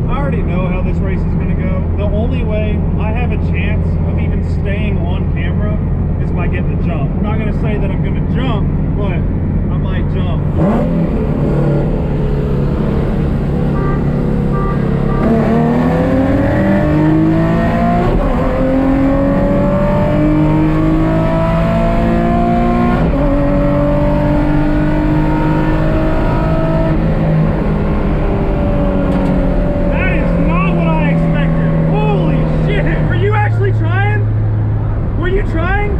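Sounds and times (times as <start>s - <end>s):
car engine accelerating: 0.0s - 35.9s.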